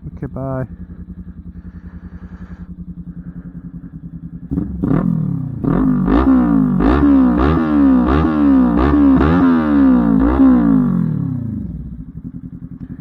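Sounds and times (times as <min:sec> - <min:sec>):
motorcycle idling: 0:00.0 - 0:13.0.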